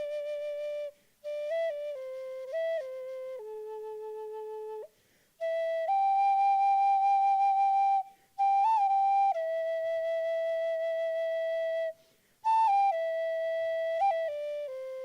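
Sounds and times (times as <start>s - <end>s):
flute playing slow melody: 0.0s - 15.0s.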